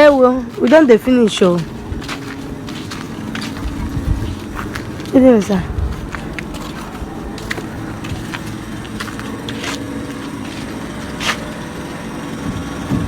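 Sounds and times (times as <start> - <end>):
small engine droning: 0.0 - 13.0.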